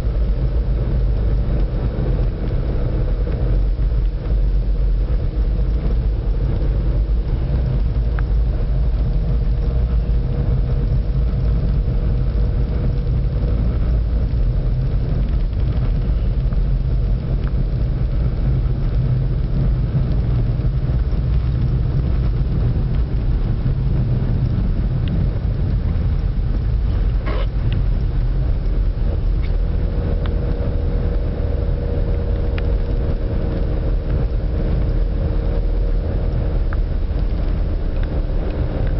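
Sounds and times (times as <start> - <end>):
car engine drone: 0.0 - 38.9.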